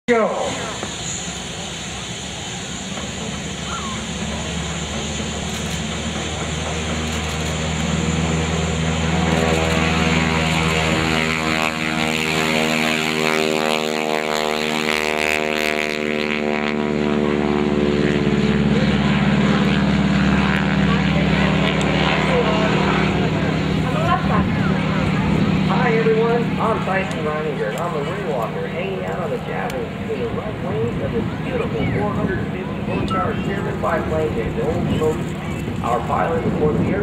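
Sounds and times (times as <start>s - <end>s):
propeller plane engine at full power: 0.1s - 37.0s.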